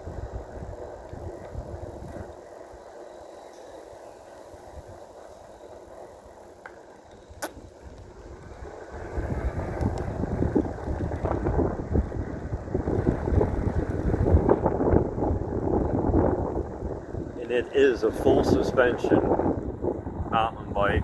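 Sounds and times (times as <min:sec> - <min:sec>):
wind buffeting microphone: 0:00.0 - 0:03.4, 0:07.1 - 0:21.0.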